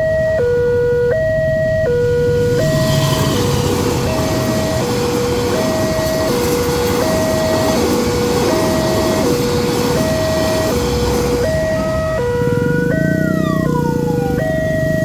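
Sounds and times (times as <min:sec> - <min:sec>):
loud steady rumble: 0:00.0 - 0:15.0
two-tone warning alarm: 0:00.0 - 0:15.0.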